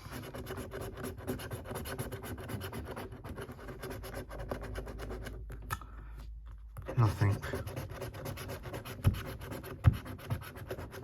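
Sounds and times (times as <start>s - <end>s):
coin scratching a scratchcard: 0.0s - 5.4s, 7.0s - 11.0s.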